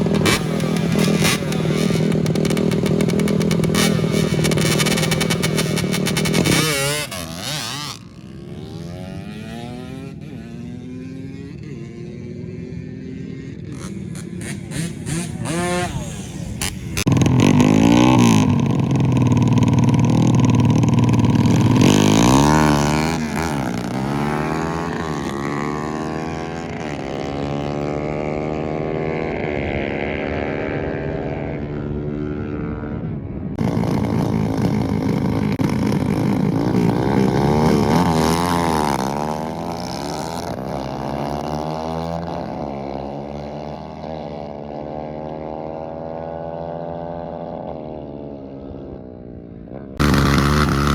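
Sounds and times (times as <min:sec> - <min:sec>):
motorcycles accelerating hard: 0:00.0 - 0:50.9.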